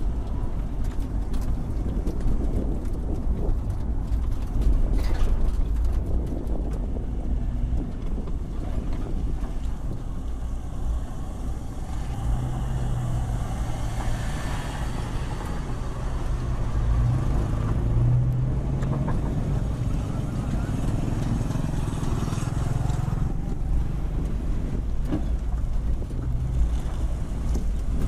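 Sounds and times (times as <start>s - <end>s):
low rumble: 0.0s - 28.0s
steady engine hum: 0.0s - 28.0s
vehicle engines at low speed: 0.0s - 28.0s.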